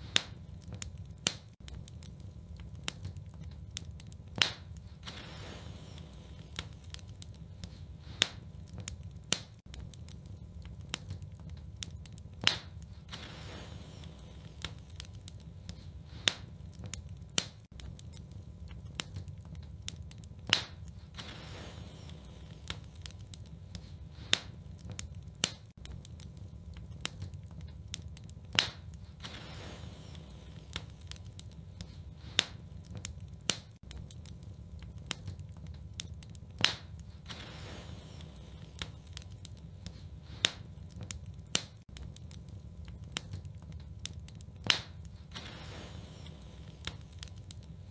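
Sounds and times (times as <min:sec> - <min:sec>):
fire low rumble: 0:00.0 - 0:47.9
wood fire popping and snapping: 0:00.0 - 0:47.9.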